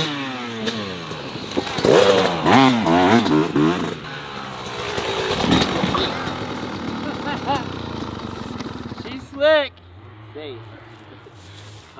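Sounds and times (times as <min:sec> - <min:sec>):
motocross bike engine revving: 0:00.0 - 0:11.9.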